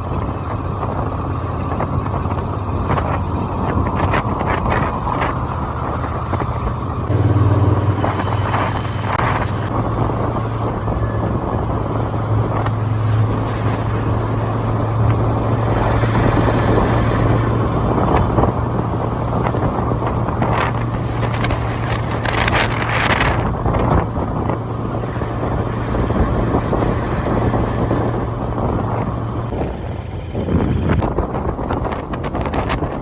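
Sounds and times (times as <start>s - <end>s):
motorcycle engine running: 0.0s - 33.0s
wind rushing over microphone: 0.0s - 33.0s.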